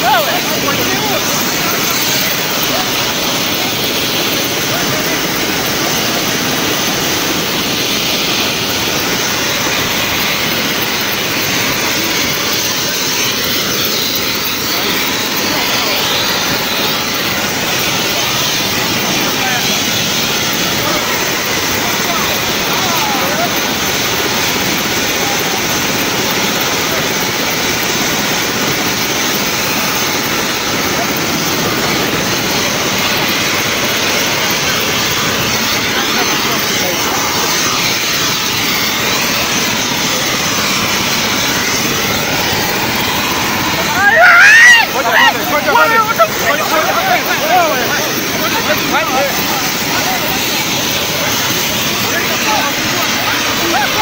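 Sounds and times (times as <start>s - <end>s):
crowd talking: 0.0s - 54.0s
helicopter engine and rotor: 0.0s - 54.0s.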